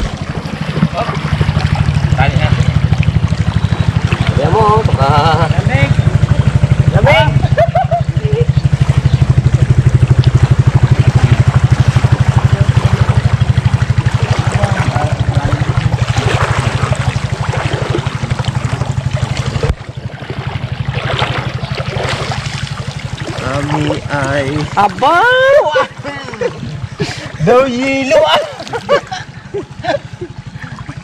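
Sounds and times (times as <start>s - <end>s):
small boat engine puttering: 0.0s - 31.0s
water splashing and trickling: 0.0s - 31.0s.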